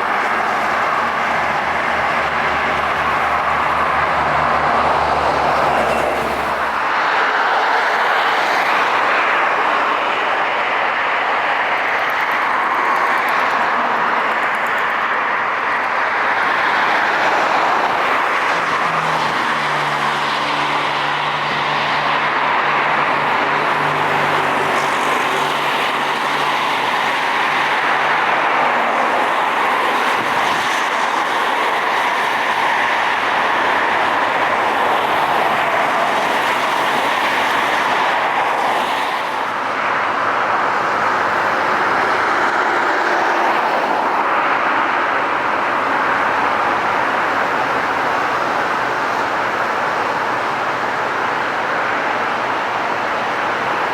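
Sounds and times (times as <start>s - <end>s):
jet engines roaring: 0.0s - 53.9s.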